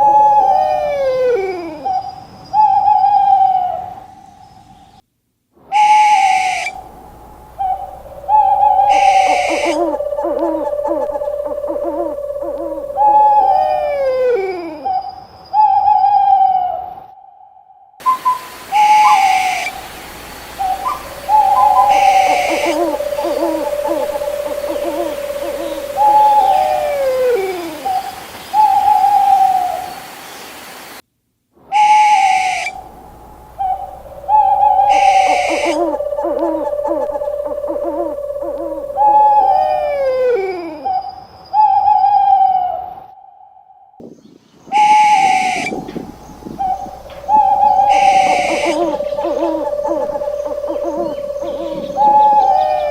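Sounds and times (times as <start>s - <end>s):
owl hooting: 0.0s - 4.5s, 5.7s - 30.2s, 31.7s - 44.0s, 44.7s - 52.9s.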